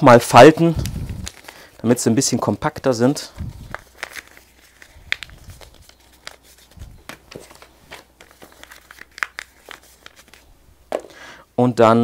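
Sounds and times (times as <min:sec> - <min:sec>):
paper being folded: 0:00.7 - 0:10.5.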